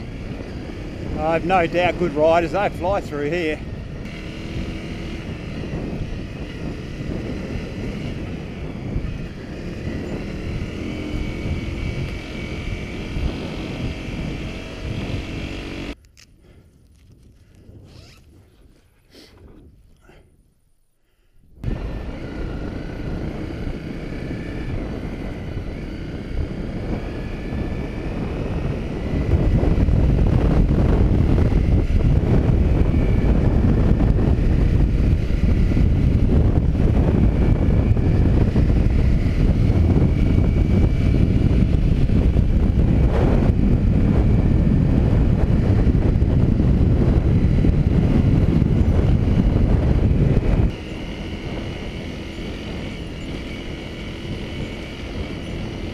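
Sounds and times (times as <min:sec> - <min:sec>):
motorcycle engine running: 0:00.0 - 0:16.0, 0:21.6 - 0:55.9
wind rumble on microphone: 0:00.0 - 0:20.5, 0:21.4 - 0:55.9.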